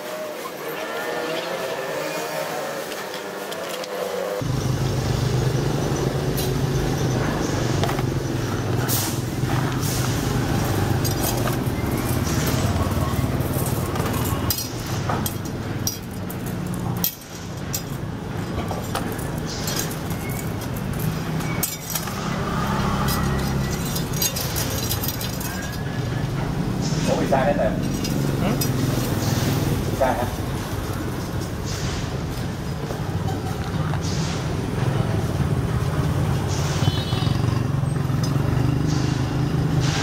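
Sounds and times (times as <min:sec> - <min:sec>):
road traffic rumble: 0:00.0 - 0:40.0
metal spokes clinking: 0:03.0 - 0:37.0.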